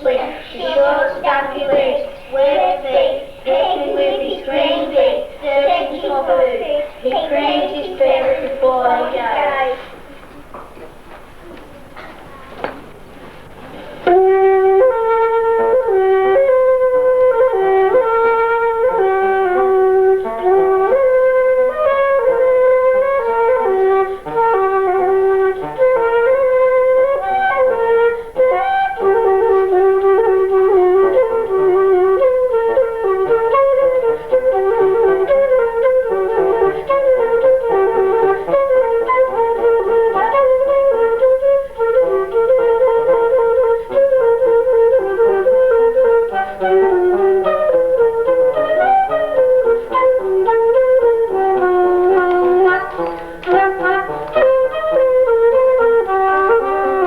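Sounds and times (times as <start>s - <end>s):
flute playing lively melody: 0.0s - 9.9s, 13.9s - 57.0s.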